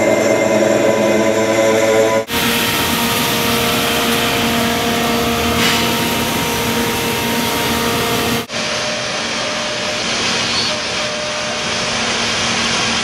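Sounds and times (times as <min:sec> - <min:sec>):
steady machine noise: 0:00.0 - 0:13.0.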